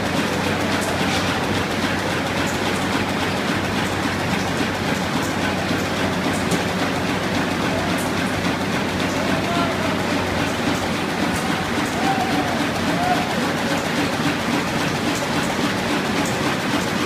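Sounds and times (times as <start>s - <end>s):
machine running with low hum: 0.0s - 17.0s.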